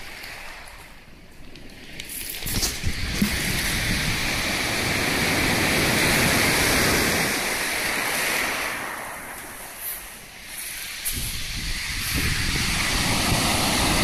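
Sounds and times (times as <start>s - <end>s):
surf breaking on pebble beach: 2.1s - 14.0s.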